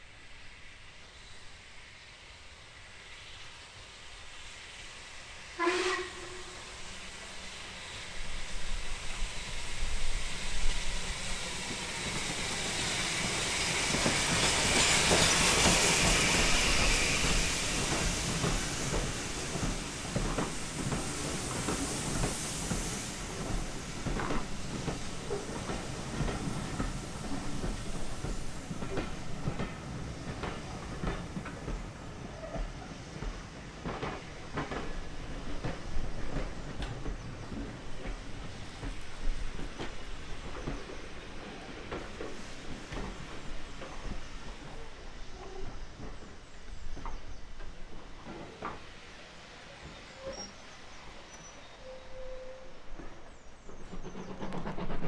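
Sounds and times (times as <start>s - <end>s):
steam train hissing: 0.0s - 55.0s.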